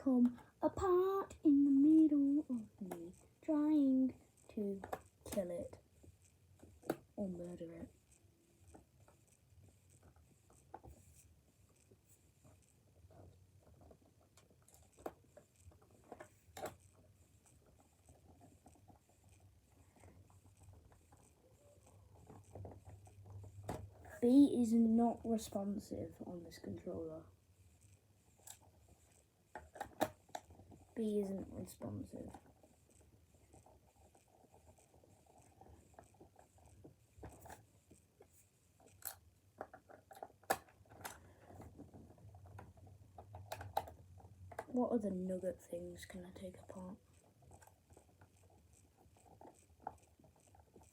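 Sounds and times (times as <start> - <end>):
clicks and taps on plastic controller: 0.1 - 24.2, 27.8 - 44.9, 45.7 - 50.9.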